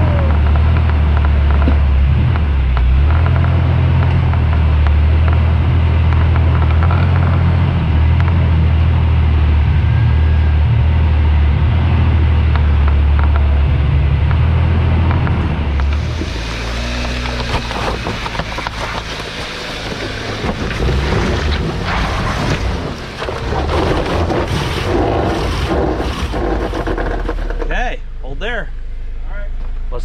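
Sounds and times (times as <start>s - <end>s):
engine rumbling at low speed: 0.0s - 30.0s.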